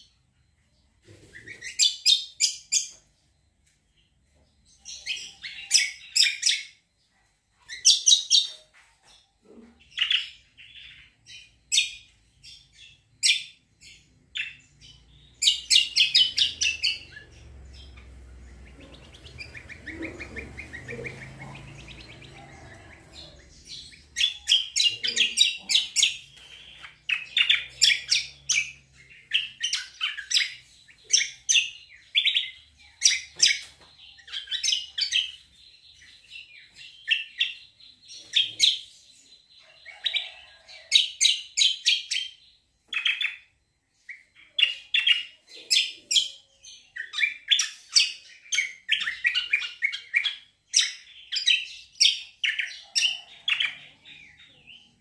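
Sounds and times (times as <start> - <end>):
bird singing high chirps: 0.0 - 55.0.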